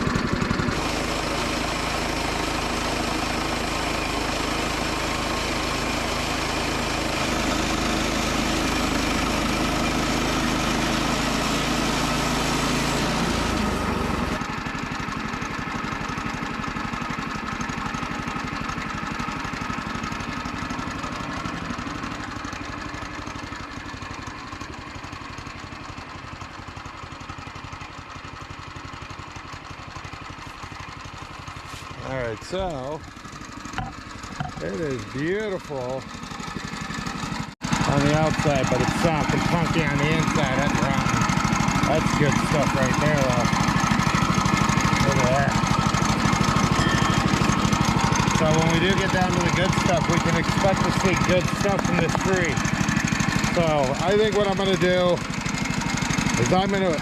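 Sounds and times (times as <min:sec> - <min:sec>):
sawmill gas engine running: 0:00.0 - 0:57.0.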